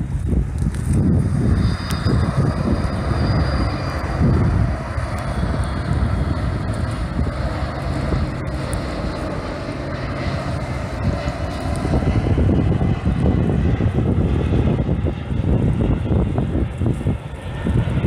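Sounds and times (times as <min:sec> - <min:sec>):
jet engine rumble: 0:00.0 - 0:18.0
wind buffeting microphone: 0:00.0 - 0:18.0.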